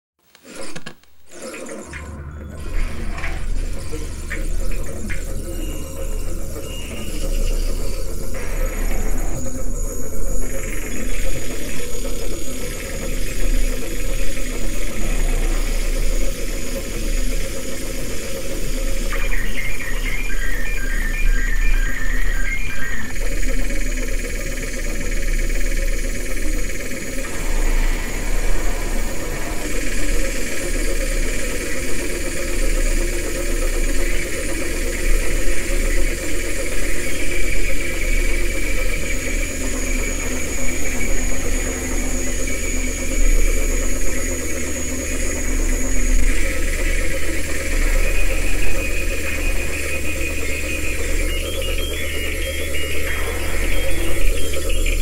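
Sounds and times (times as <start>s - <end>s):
noise drone music: 2.0s - 55.0s.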